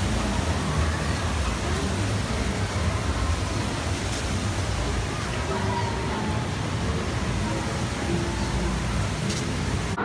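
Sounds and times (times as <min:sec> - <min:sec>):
faint distant voices: 0:00.0 - 0:10.0
steady rushing outdoor noise: 0:00.0 - 0:10.0.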